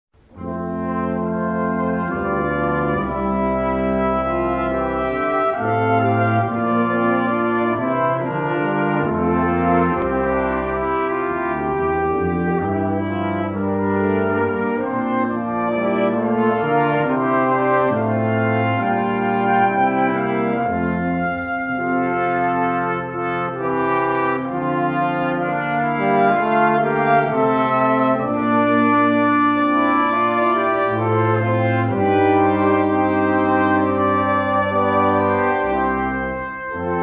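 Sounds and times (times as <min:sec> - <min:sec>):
brass quintet playing chords: 0:00.2 - 0:37.0.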